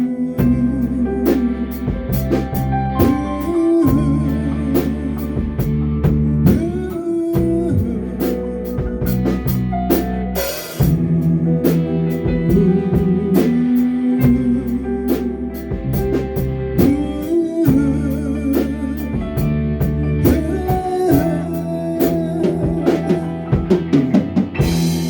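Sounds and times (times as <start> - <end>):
live rock band: 0.0 - 25.0.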